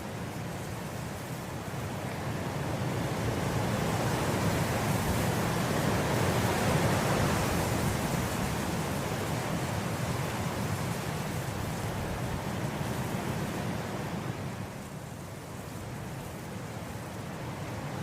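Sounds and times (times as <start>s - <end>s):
wind blowing through grass: 0.0s - 18.0s.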